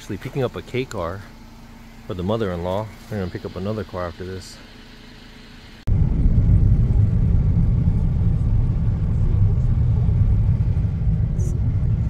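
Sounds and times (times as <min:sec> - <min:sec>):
small car engine running: 0:00.0 - 0:12.0.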